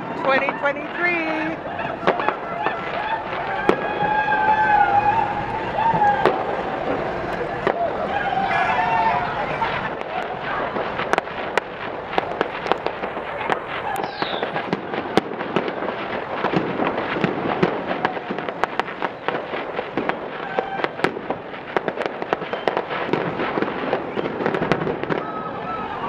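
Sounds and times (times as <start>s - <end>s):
fireworks bangs and crackles: 0.0s - 26.0s
steady noise haze: 0.0s - 26.0s.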